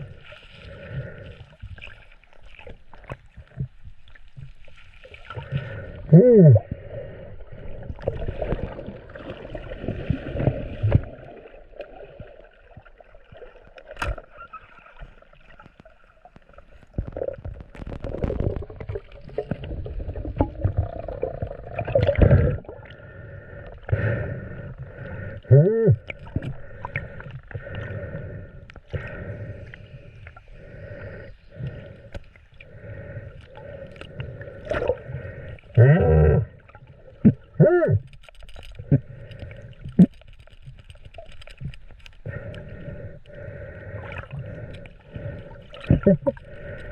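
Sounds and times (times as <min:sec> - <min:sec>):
sea water sloshing and gurgling: 0:00.0 - 0:46.9.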